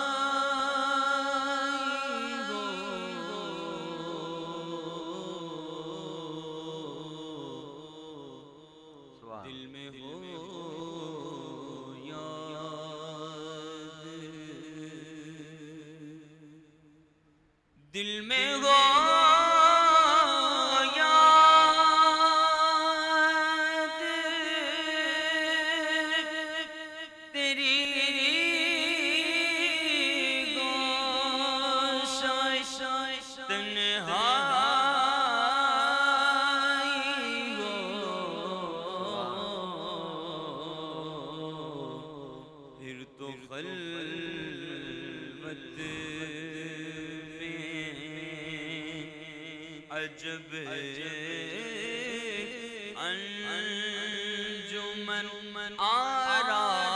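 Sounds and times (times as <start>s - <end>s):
man singing into a microphone: 0.0s - 16.6s, 17.8s - 56.9s.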